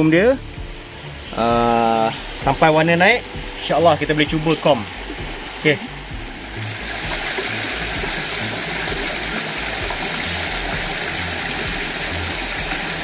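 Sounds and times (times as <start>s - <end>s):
waterfall and stream rushing: 0.0s - 13.0s.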